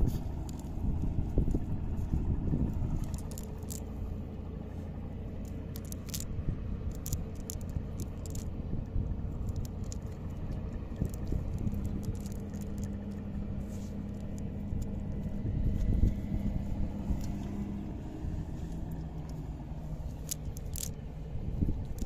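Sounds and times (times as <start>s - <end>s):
net mesh rustling and scraping: 0.0s - 6.3s, 6.9s - 8.6s, 9.3s - 22.0s
steady low rumble: 0.0s - 22.0s
sinker weights clicking: 2.6s - 22.0s.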